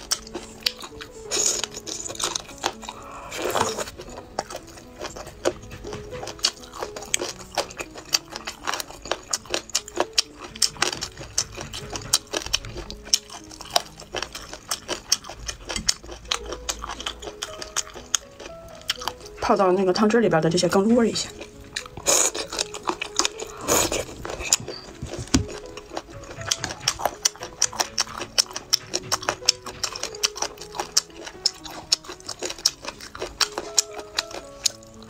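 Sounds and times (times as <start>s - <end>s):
wet chewing and crunching: 0.0s - 19.6s, 20.5s - 35.0s
soft background music: 0.0s - 35.0s.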